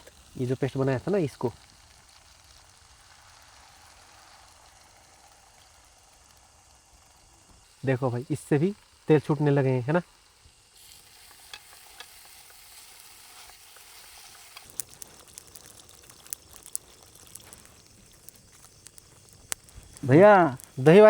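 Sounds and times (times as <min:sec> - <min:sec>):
oil popping and crackling: 0:00.0 - 0:21.0
paste sizzling in oil: 0:00.0 - 0:21.0.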